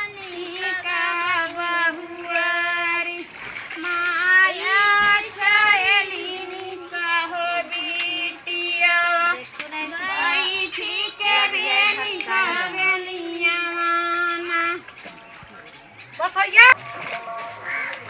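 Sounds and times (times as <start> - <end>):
women singing folk song: 0.0 - 15.2.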